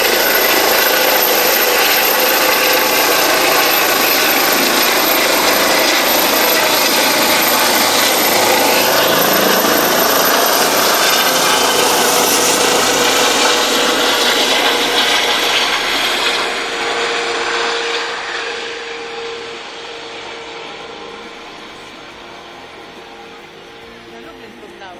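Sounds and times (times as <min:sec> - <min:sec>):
helicopter rotor and turbine: 0:00.0 - 0:24.9.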